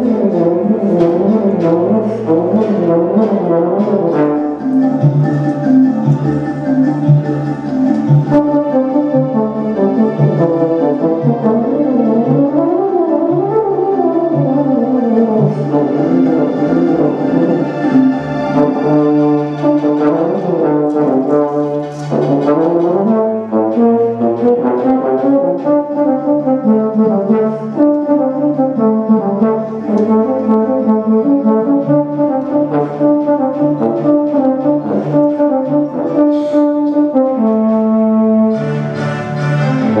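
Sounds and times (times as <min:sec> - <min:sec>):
euphonium melody: 0:00.0 - 0:40.0.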